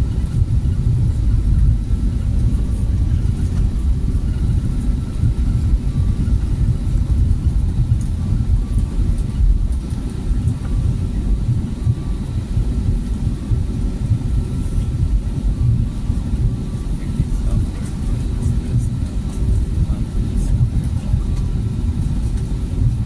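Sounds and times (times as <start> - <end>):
airplane cabin rumble: 0.0 - 23.0
faint steady tones: 0.0 - 23.0.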